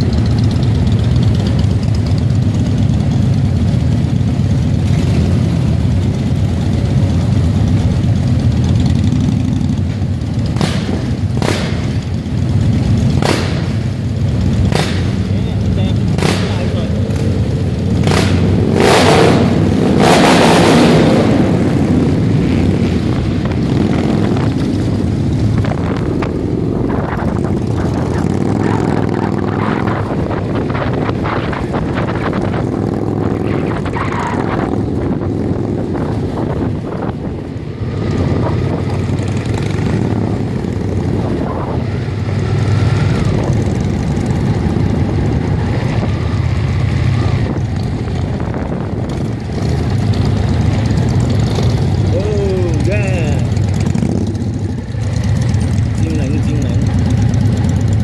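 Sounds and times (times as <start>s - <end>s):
motorcycle engines rumbling: 0.0s - 58.0s.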